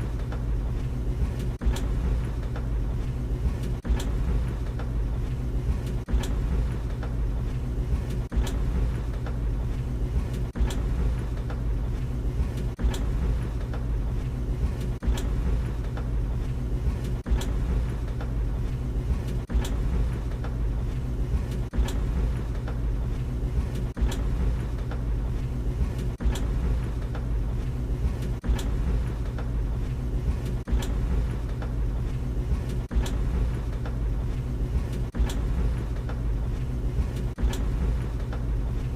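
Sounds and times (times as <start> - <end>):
tumble dryer humming: 0.0 - 38.9.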